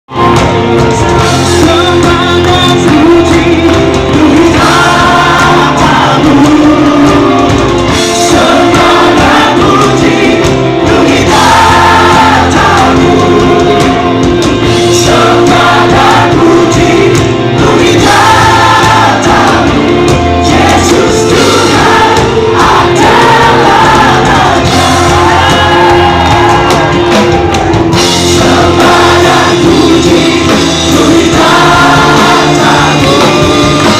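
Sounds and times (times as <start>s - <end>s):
instrumental accompaniment: 0.1s - 33.9s
choir singing worship song: 0.3s - 33.9s.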